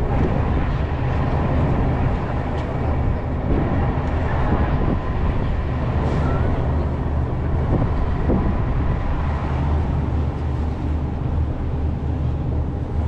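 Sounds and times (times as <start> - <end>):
boat engines droning: 0.0 - 13.0
constant rushing noise: 0.0 - 13.0.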